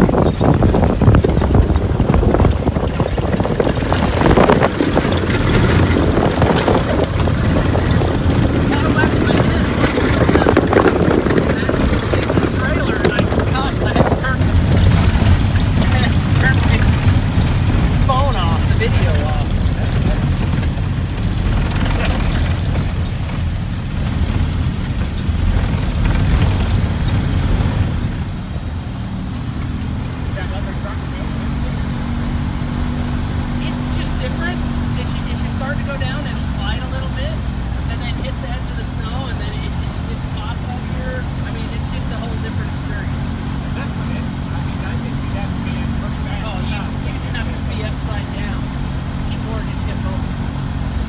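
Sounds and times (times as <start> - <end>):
snowcat engine running: 0.0 - 51.0
track clattering: 0.0 - 51.0
wind buffeting microphone: 0.0 - 51.0.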